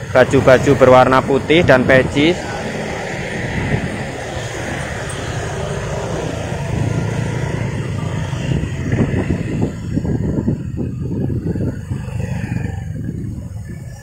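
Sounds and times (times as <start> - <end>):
large vehicle engine humming: 0.0 - 14.0.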